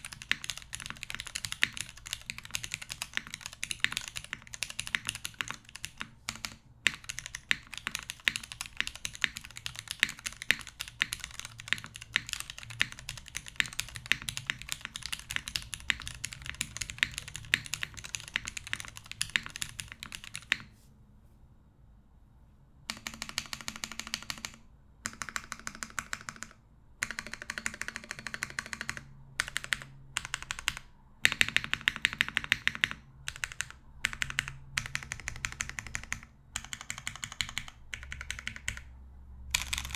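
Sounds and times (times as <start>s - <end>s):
mechanical keyboard typing: 0.0s - 20.7s, 22.9s - 39.9s.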